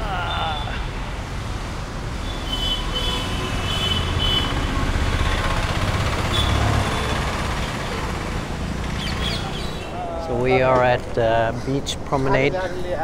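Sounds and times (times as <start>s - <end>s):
vehicle engine rumble: 0.0s - 11.6s.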